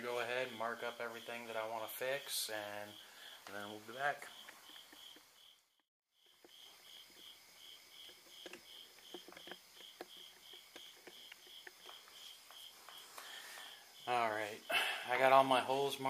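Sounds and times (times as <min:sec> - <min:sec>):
faint cricket chirping: 0:00.0 - 0:16.0.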